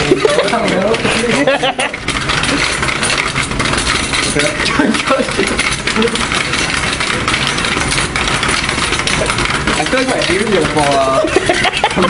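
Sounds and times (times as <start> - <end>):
metal cart rattling on casters: 0.0 - 12.0.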